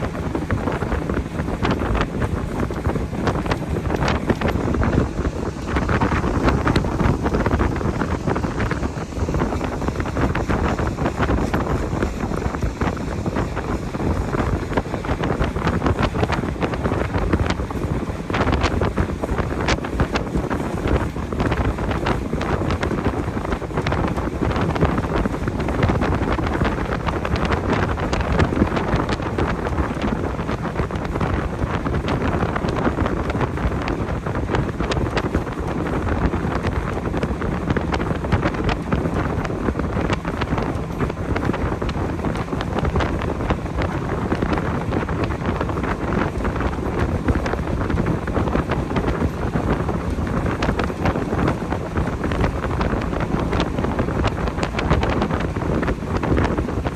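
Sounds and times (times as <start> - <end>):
boat motor and water rushing: 0.0 - 56.9
wind buffeting microphone: 0.0 - 56.9.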